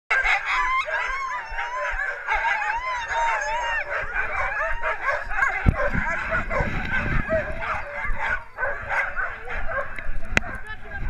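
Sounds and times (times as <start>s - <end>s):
sled dogs yelping and howling: 0.1s - 11.0s.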